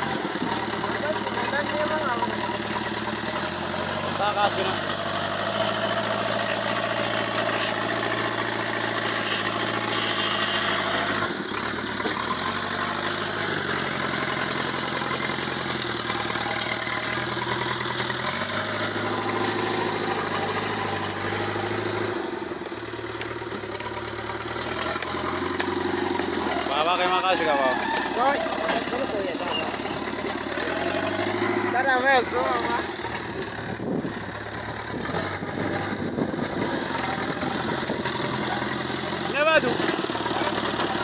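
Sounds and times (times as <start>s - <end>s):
diesel engine revving: 0.0s - 41.0s.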